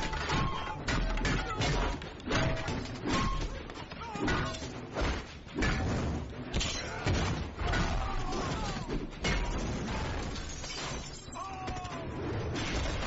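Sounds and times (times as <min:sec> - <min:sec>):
shattering: 0:00.0 - 0:13.0.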